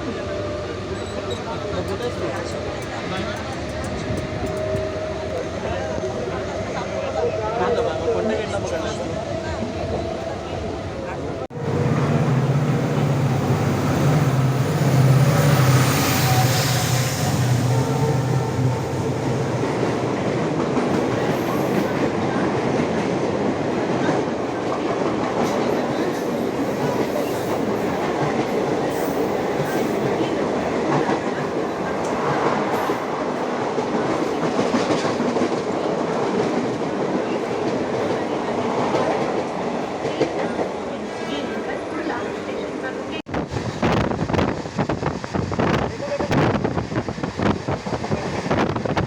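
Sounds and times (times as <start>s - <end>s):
train rumbling on rails: 0.0s - 49.0s.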